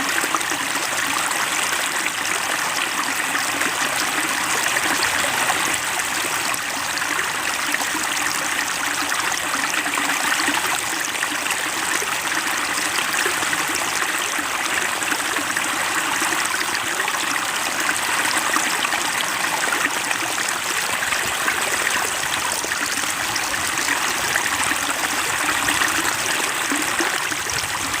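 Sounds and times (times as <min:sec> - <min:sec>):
stream water rushing and trickling: 0:00.0 - 0:28.0.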